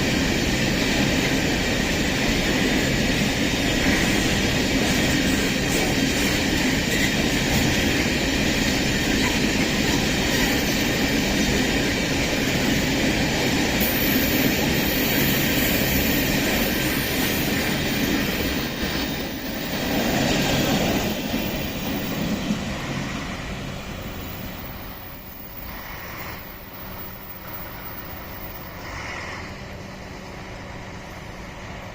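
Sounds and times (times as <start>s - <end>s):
freight train wheels rumbling on track: 0.0s - 31.9s.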